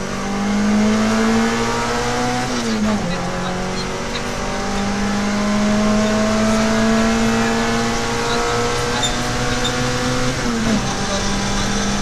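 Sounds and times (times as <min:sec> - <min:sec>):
car engine from inside cockpit: 0:00.0 - 0:12.0.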